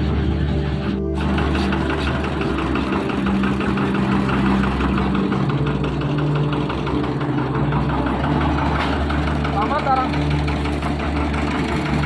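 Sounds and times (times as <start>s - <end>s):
engine idling with knock: 0.0s - 12.0s.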